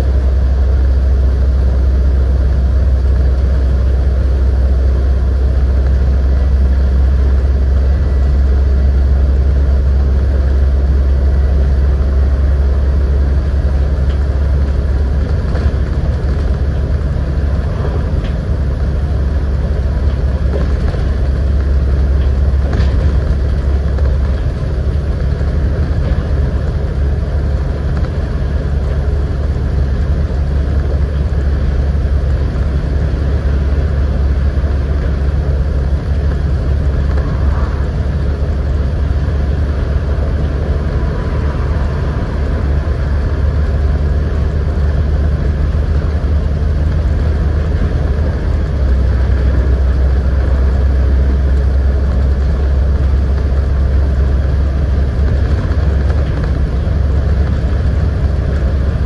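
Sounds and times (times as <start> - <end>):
bus diesel engine droning: 0.0 - 59.0
road and tyre noise: 0.0 - 59.0.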